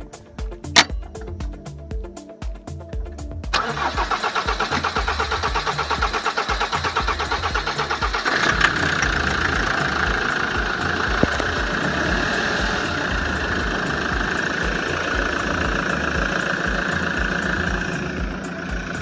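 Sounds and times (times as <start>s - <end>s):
engine idling: 0.0s - 2.1s, 2.7s - 19.0s
engine cranking by starter: 3.5s - 19.0s.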